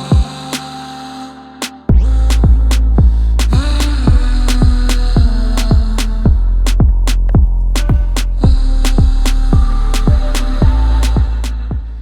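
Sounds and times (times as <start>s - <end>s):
music with heavy beat and bass: 1.9s - 12.0s.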